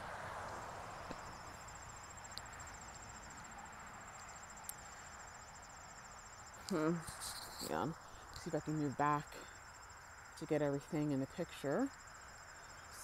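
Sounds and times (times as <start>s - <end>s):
insects trilling: 0.1s - 13.0s.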